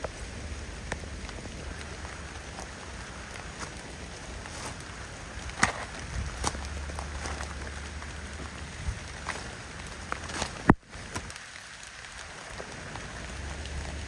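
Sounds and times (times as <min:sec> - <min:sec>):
raindrops ticking close by: 0:00.0 - 0:14.0
steady rain: 0:00.0 - 0:14.0.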